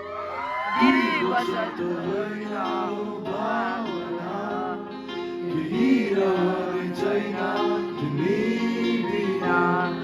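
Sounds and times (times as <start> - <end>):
guitar: 0.0 - 10.0
people singing: 0.4 - 10.0.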